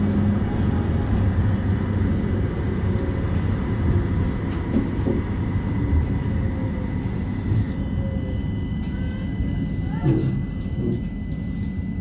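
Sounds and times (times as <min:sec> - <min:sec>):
tram wheels rumbling: 0:00.0 - 0:12.0.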